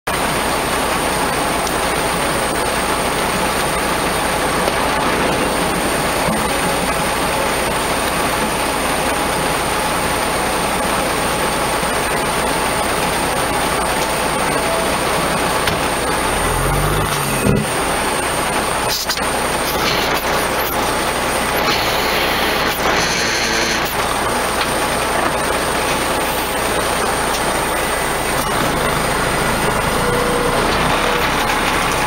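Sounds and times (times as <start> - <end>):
diesel truck engine rumbling: 0.1 - 32.0.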